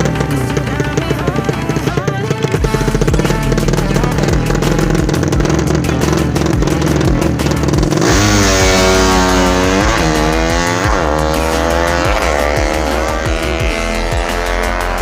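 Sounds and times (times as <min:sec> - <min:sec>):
background music with steady beat: 0:00.0 - 0:15.0
motorcycle engine revving: 0:00.0 - 0:15.0.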